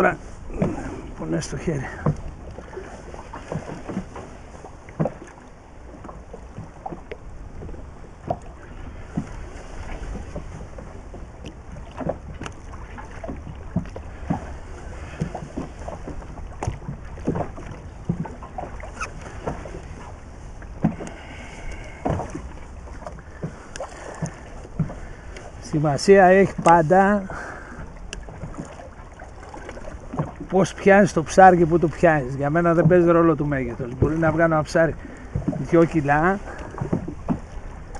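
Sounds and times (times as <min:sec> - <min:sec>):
water lapping against boat hull: 0:00.0 - 0:37.9
wind rumble on microphone: 0:00.0 - 0:37.9.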